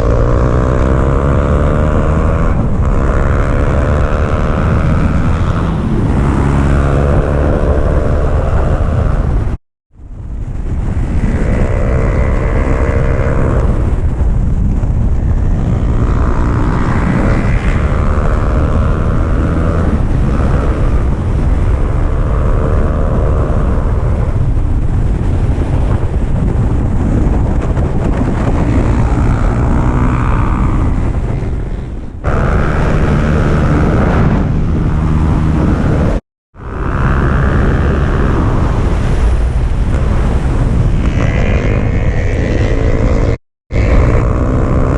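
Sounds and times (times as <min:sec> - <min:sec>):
motorcycle engine revving: 0:00.0 - 0:44.9
wind rush on microphone: 0:00.0 - 0:44.9.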